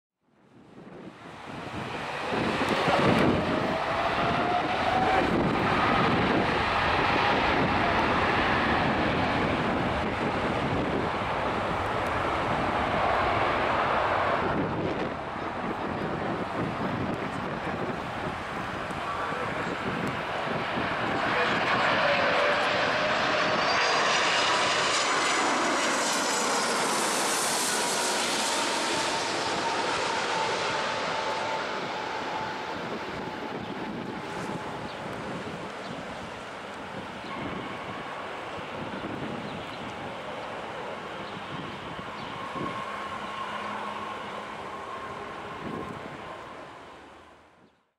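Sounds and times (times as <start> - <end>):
wind buffeting microphone: 0.5 - 46.8
jet noise: 0.7 - 47.6
thin engine whine: 1.3 - 47.5.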